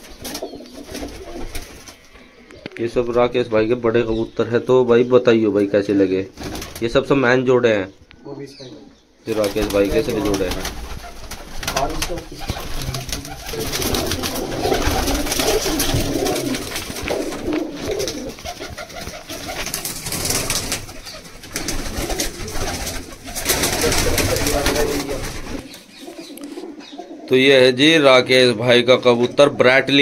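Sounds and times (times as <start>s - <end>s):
pigeons cooing: 0.0s - 5.4s, 8.1s - 27.6s.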